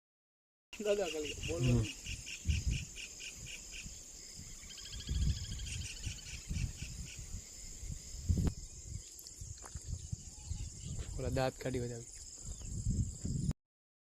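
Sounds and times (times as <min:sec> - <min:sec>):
insects chirping: 0:00.8 - 0:13.5.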